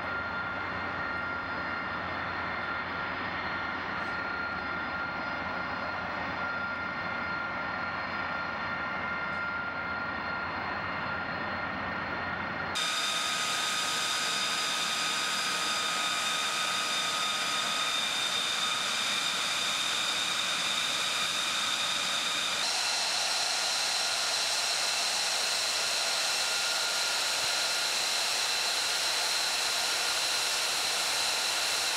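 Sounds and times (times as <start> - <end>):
jet engine turbine whine: 0.0 - 31.9.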